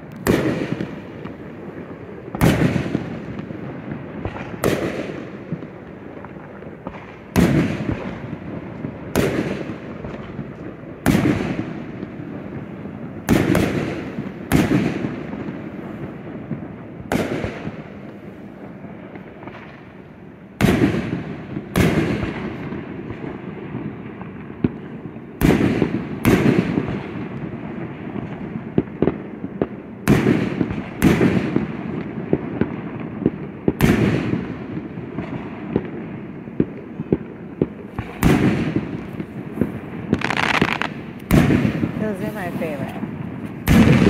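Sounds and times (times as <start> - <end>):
fireworks booming: 0.0 - 44.0
fireworks pops and crackles: 0.0 - 44.0.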